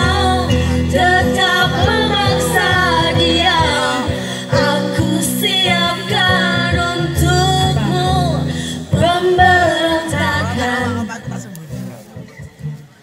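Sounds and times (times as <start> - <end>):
people singing: 0.0 - 11.5
acoustic guitar: 0.0 - 13.0.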